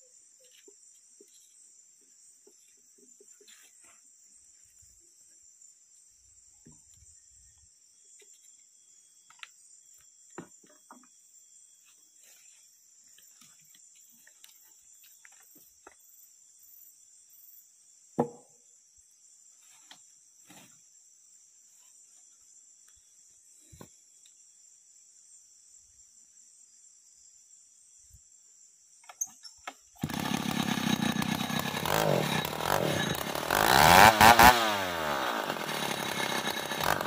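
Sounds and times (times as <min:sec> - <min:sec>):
insects chirping chorus: 0:00.0 - 0:30.1.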